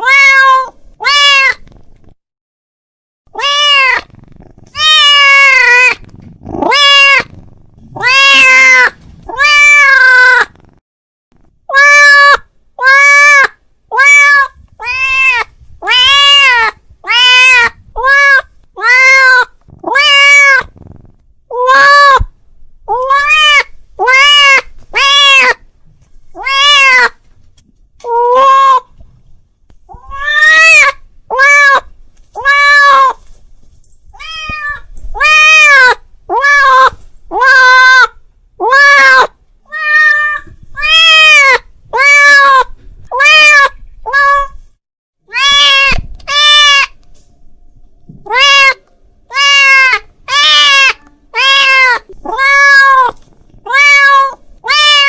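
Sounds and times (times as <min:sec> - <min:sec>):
cat meowing: 0:00.0 - 0:01.7, 0:03.3 - 0:10.6, 0:11.7 - 0:20.9, 0:21.5 - 0:25.6, 0:26.4 - 0:27.2, 0:28.0 - 0:29.0, 0:29.9 - 0:33.3, 0:34.2 - 0:44.6, 0:45.3 - 0:47.0, 0:48.1 - 0:55.0.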